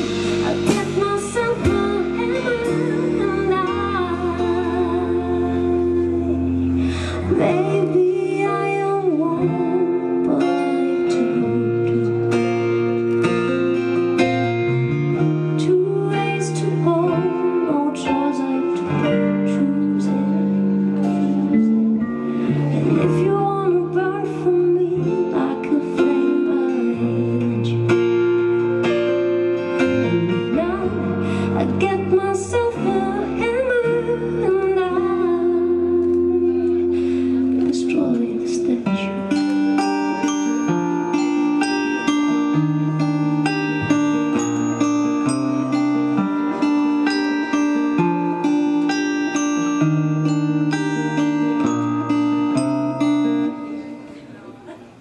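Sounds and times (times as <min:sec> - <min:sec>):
person singing: 0:00.0 - 0:54.4
guitar with bass: 0:00.0 - 0:55.0.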